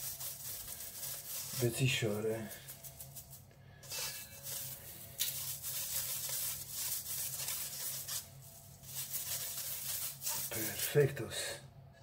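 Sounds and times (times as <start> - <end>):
dried herbs rustling in metal sieve: 0.0 - 11.3.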